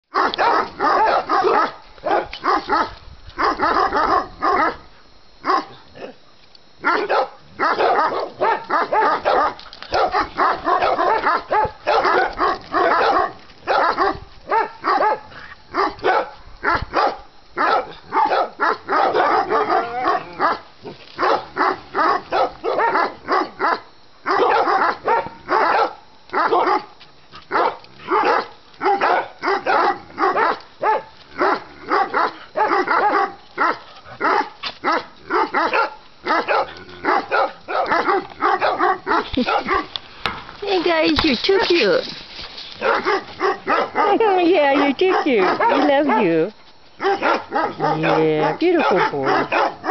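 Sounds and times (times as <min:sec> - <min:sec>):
small dogs barking and yipping: 0:00.1 - 0:06.2, 0:06.8 - 0:40.0, 0:42.8 - 0:49.9.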